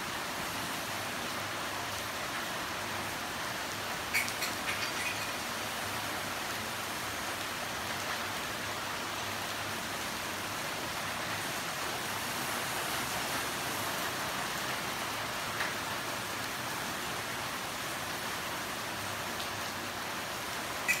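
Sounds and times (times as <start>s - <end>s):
steady rain on foliage: 0.0s - 21.0s.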